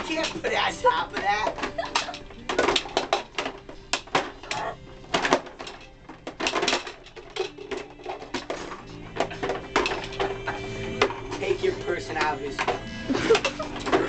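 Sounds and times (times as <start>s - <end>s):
toy trucks clattering together: 0.0s - 14.0s.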